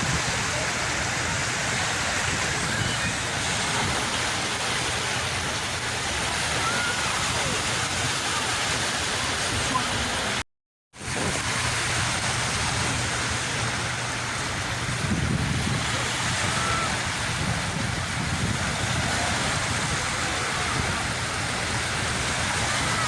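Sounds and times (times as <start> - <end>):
sea waves washing on shore: 0.0 - 10.4, 11.0 - 23.0.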